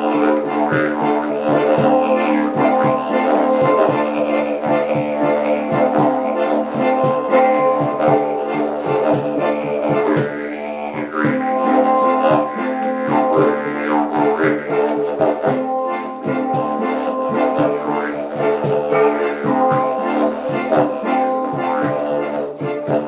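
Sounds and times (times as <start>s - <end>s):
didgeridoo drone: 0.0s - 23.0s
hang drum notes: 0.0s - 23.0s.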